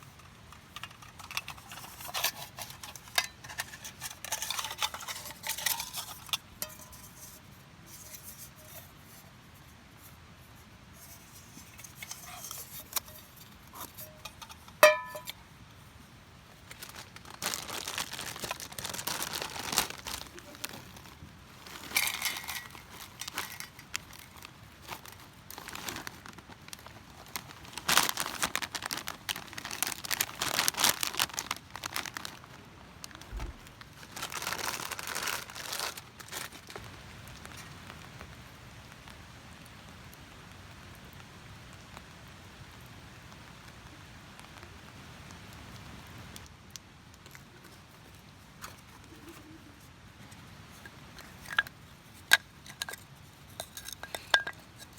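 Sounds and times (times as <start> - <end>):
crinkly material rustling: 0.0 - 38.5, 47.2 - 54.9
faint steady hiss: 0.0 - 54.9.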